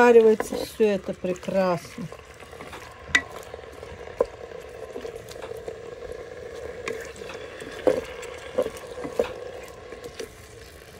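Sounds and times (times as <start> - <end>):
chicken and onion sizzling: 0.0 - 10.9.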